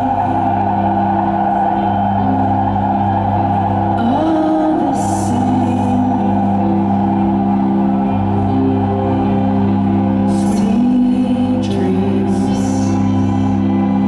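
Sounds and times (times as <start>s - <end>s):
steady low note: 0.0s - 11.6s
droning electric guitar chords: 0.0s - 14.0s.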